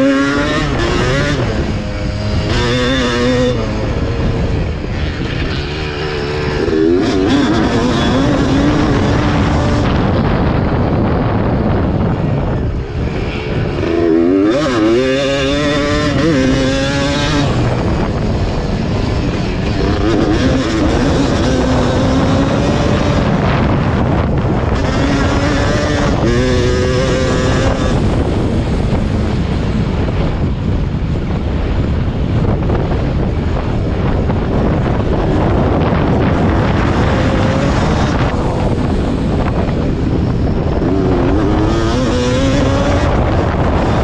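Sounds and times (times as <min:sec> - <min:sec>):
two-stroke motorbike engine revving: 0:00.0 - 0:44.0
wind on microphone: 0:00.0 - 0:44.0.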